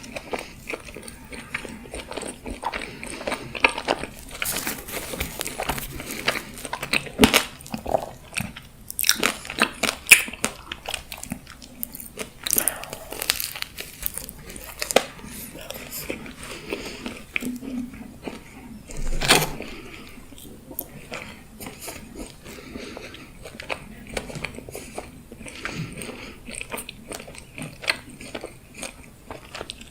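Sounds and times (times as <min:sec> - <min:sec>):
chewing: 0:00.0 - 0:29.9.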